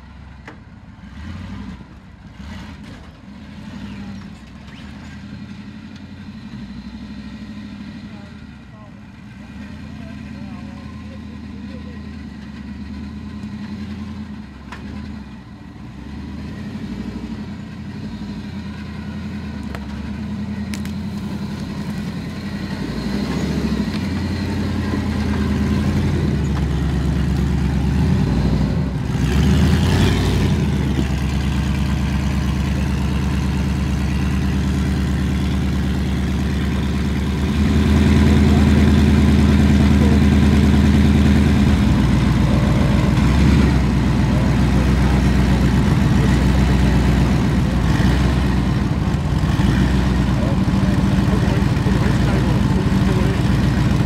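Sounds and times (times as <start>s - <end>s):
truck engine running under load: 0.0s - 54.0s.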